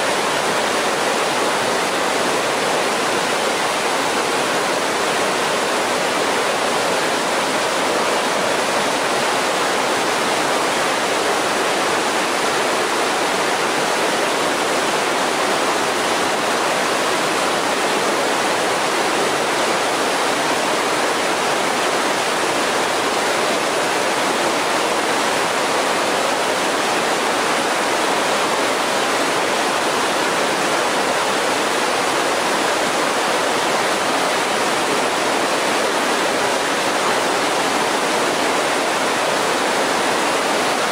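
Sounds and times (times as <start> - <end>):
creek rushing over rocks: 0.0 - 40.9.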